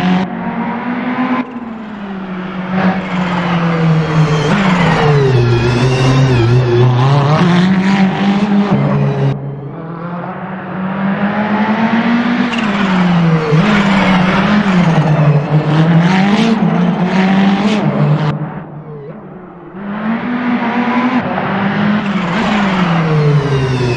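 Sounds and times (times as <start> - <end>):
racing car engine shifting gears: 0.0 - 23.9.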